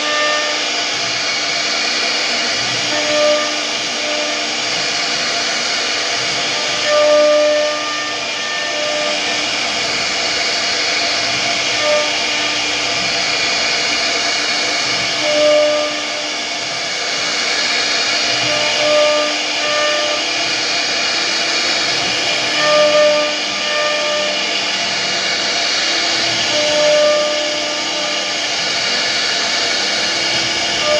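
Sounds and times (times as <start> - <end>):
humming tone while cutting: 0.0 - 30.9
router spindle whirring: 0.0 - 30.9.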